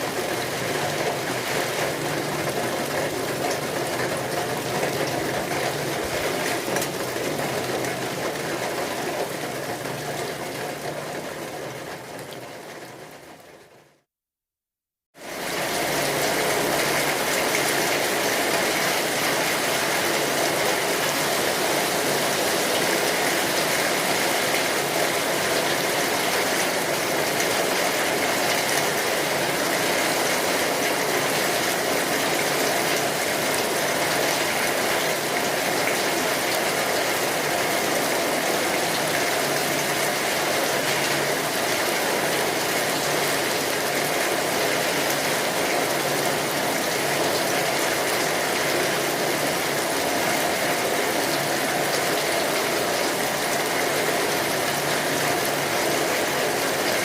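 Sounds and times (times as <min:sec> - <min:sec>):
heavy rain: 0:00.0 - 0:14.0, 0:15.2 - 0:57.0.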